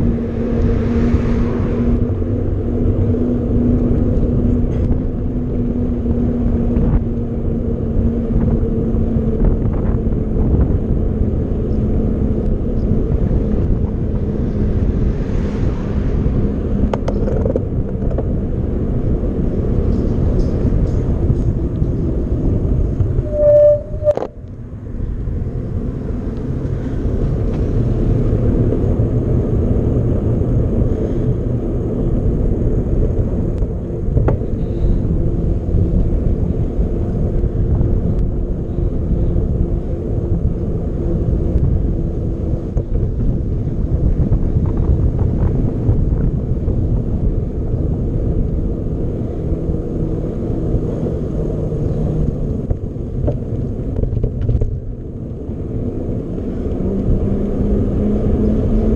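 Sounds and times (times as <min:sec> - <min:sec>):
bike rolling rumble: 0:00.0 - 0:58.9
wind buffeting the microphone: 0:00.0 - 0:58.9.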